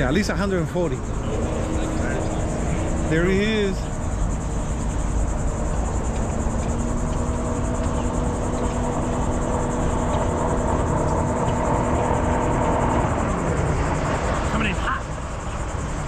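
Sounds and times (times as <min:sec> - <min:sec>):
distant boat engine droning: 0:00.0 - 0:16.0
low steady rumble: 0:00.0 - 0:16.0.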